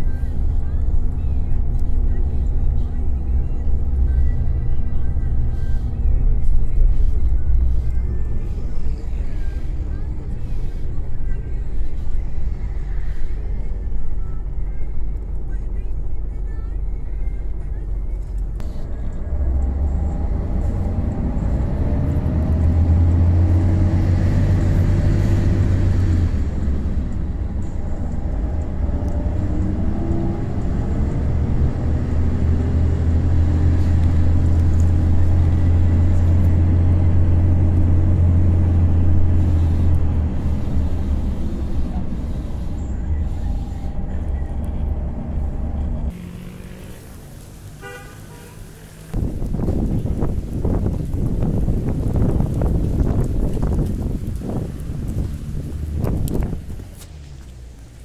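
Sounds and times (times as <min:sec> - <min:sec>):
low road rumble: 0:00.0 - 0:58.0
street sound: 0:00.0 - 0:58.0
vehicle engine drone: 0:00.0 - 0:58.0.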